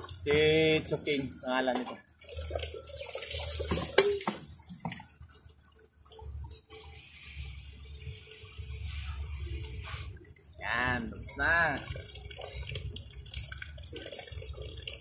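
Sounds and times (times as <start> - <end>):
water splashing from pitcher: 0.0 - 15.0
water trickling and dripping: 0.0 - 15.0.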